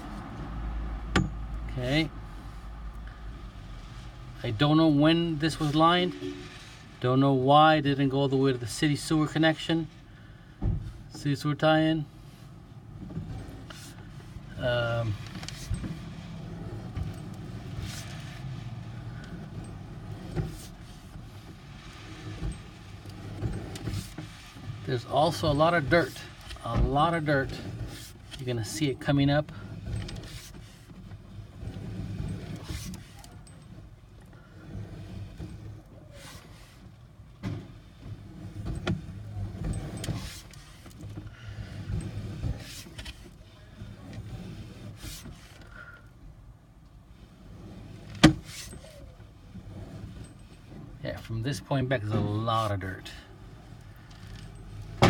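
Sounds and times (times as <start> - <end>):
low mechanical hum: 0.0 - 55.0
cable rubbing and rattling: 1.2 - 10.1, 10.9 - 45.9, 46.7 - 55.0.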